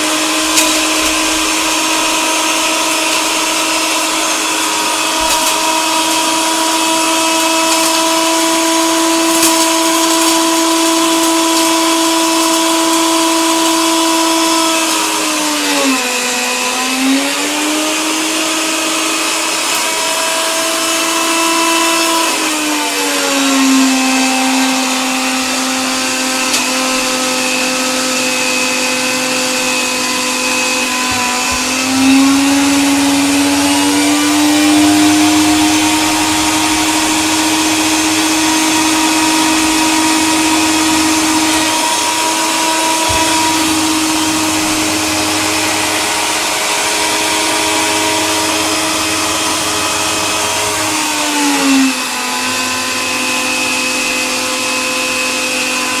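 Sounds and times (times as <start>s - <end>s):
electric coffee grinder running: 0.0s - 56.0s.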